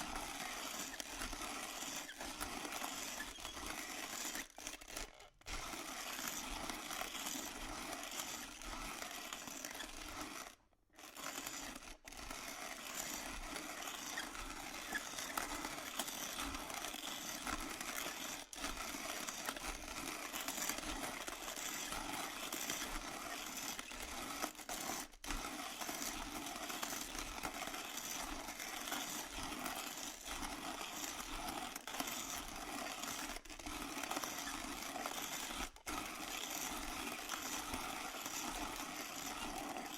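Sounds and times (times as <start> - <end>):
coffee beans crackling in grinder: 0.0 - 39.9
electric coffee grinder motor humming: 0.0 - 39.9.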